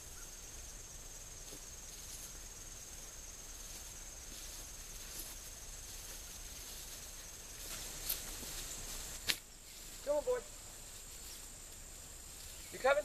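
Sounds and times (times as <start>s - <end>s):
crickets trilling: 0.0s - 13.0s
low outdoor hiss: 0.0s - 13.0s.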